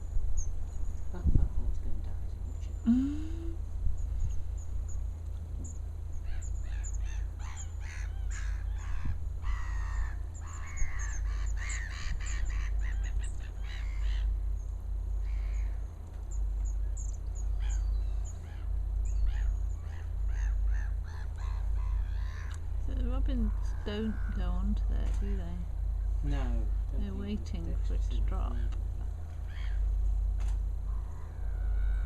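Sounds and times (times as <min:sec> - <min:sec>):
steady low rumble: 0:00.0 - 0:32.0
birds calling harshly: 0:02.5 - 0:32.0.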